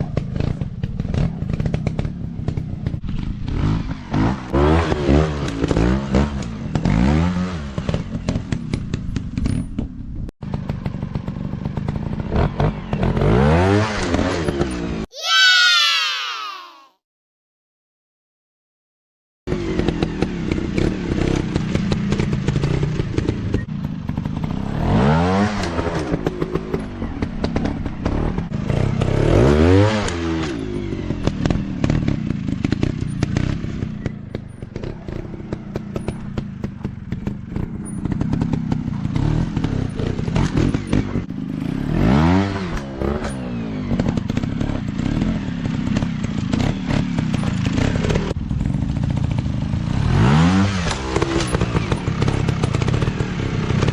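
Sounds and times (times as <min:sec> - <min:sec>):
dirt bike engine revving: 0:03.1 - 0:08.4, 0:10.5 - 0:16.7, 0:19.5 - 0:53.9.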